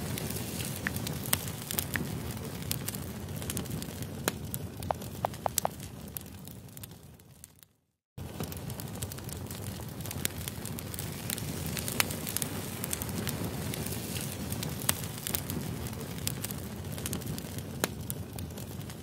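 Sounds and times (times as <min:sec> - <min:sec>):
sharp crackles and clicks: 0:00.0 - 0:19.0.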